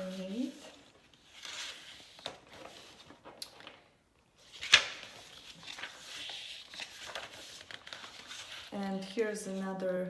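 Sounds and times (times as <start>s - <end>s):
paper rustling: 0.0s - 3.8s, 4.4s - 9.1s.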